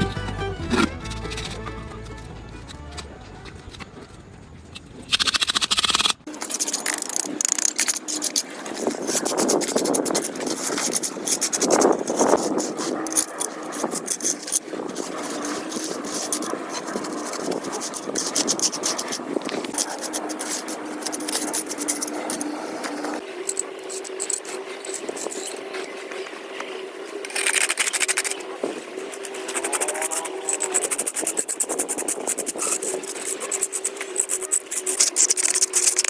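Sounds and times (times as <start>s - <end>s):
scraping and clicking strokes: 4.8s - 36.0s.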